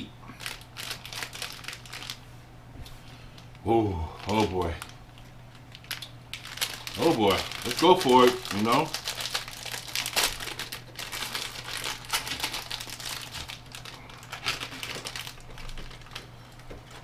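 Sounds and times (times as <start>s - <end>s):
plastic wrapper crinkling: 0.4s - 2.2s, 4.2s - 17.0s.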